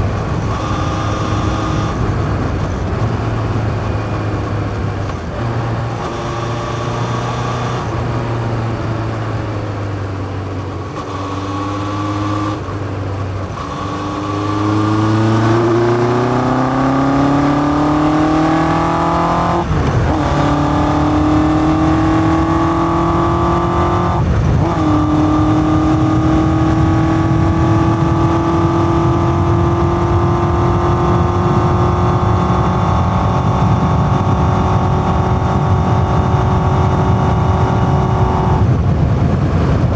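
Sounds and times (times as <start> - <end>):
motorcycle engine revving through gears: 0.0 - 39.9
wind and road noise: 0.0 - 39.9.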